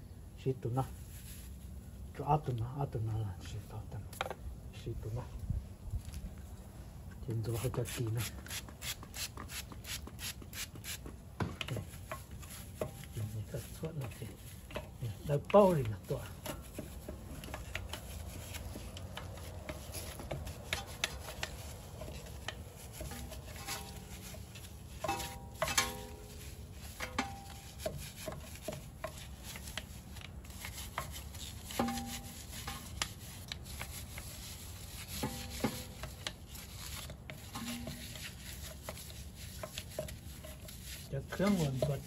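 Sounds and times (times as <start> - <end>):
brush scrubbing car wheel: 7.3 - 11.2, 11.8 - 42.0
brush knocking against rim: 8.3 - 42.0.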